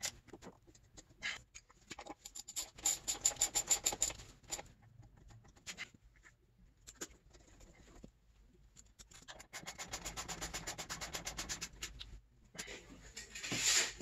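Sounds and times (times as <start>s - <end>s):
tools and parts handled: 0.0s - 9.6s, 11.8s - 14.0s.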